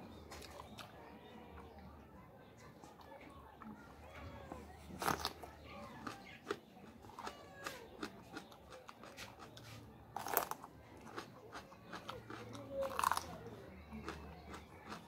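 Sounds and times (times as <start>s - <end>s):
chewing bell pepper: 0.0s - 15.0s.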